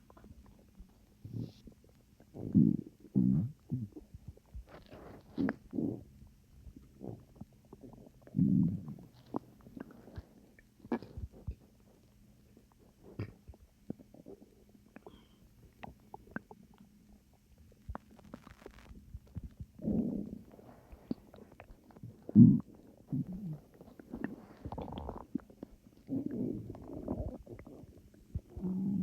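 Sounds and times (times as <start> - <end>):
stomach growling and gurgling: 0.0 - 29.0.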